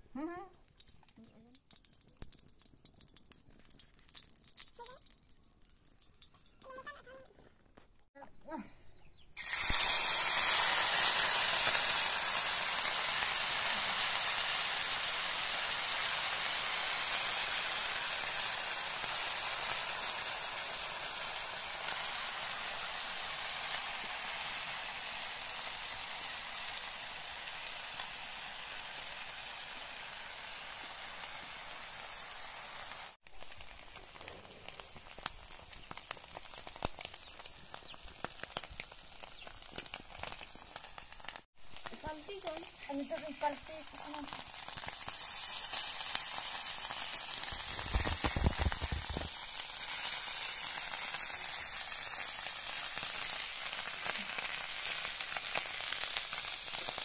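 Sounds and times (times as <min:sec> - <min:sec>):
fish frying in hot oil: 0:00.2 - 0:06.9, 0:09.4 - 0:57.0.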